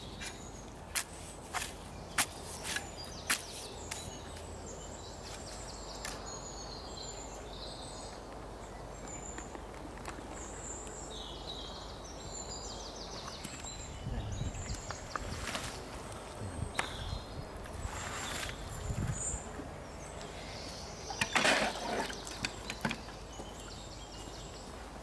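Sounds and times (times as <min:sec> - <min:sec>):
birds chirping: 0:00.0 - 0:25.0
outdoor ambience: 0:00.0 - 0:25.0.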